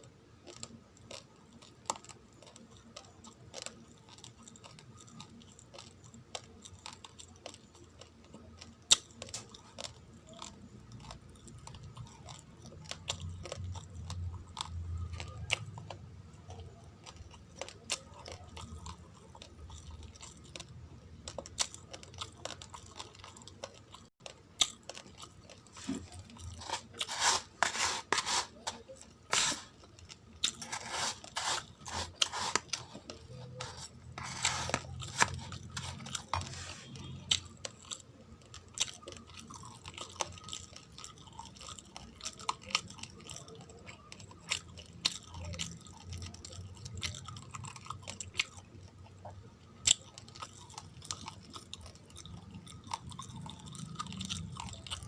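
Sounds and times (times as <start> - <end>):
person chewing raw rice: 0.0 - 55.0.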